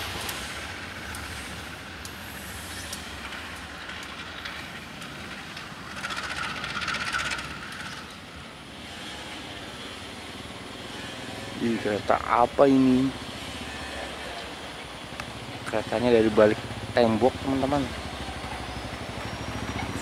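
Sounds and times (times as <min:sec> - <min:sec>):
locomotive rumbling on track: 0:00.0 - 0:20.0.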